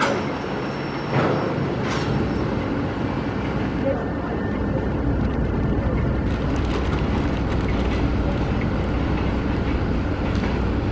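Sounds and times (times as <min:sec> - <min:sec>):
freight train rumbling: 0:00.0 - 0:10.9.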